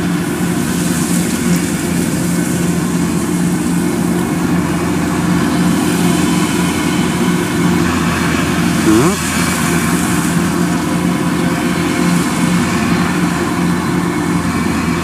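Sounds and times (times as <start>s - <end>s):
combine harvester humming: 0.0s - 15.0s.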